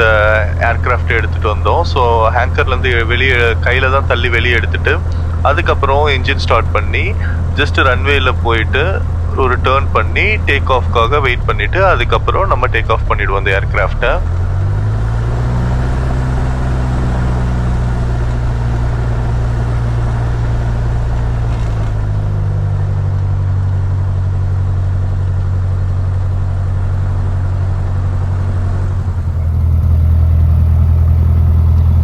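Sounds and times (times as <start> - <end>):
propeller plane engine droning: 0.0 - 32.0.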